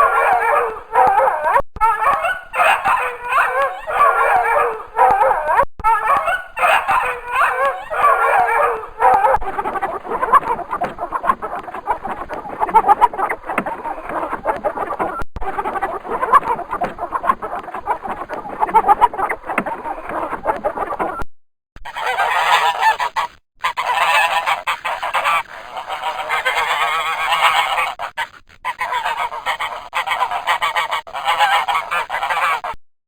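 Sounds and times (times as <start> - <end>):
chattering animal calls: 0.0 - 21.2, 21.8 - 32.8
overlapping animal calls: 0.0 - 21.2, 21.8 - 32.8.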